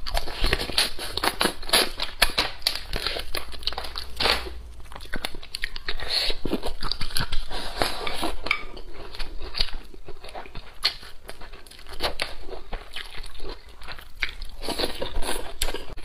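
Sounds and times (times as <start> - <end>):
person chewing and smacking: 0.0 - 16.0.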